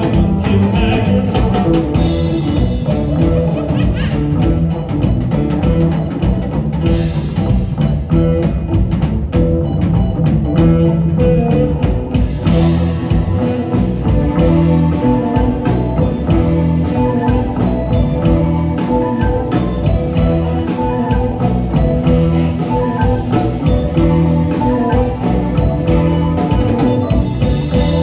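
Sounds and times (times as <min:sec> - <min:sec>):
drum kit: 0:00.0 - 0:28.0
electric guitars: 0:00.0 - 0:28.0.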